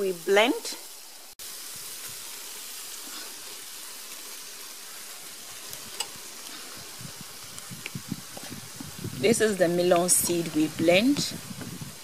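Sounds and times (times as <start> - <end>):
sauce sizzling in frying pan: 0.0 - 12.0.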